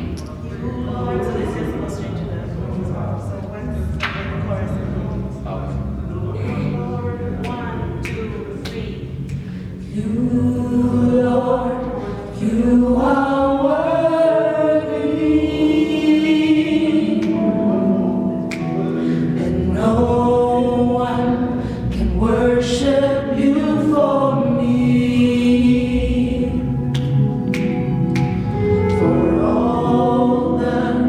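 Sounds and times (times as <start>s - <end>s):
choir singing in harmony: 0.0s - 3.3s, 4.4s - 31.0s.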